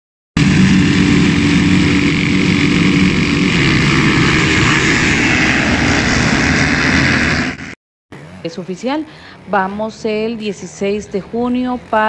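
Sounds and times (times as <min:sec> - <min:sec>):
motocross bikes revving: 0:00.4 - 0:05.1, 0:05.9 - 0:12.0.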